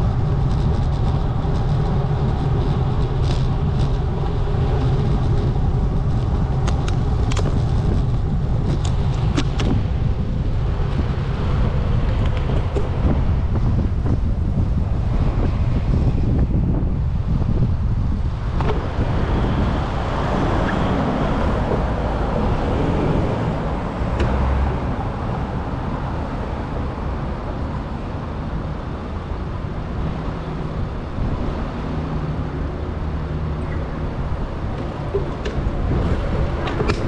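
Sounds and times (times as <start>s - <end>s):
road traffic: 0.0s - 37.0s
wind noise: 0.0s - 37.0s.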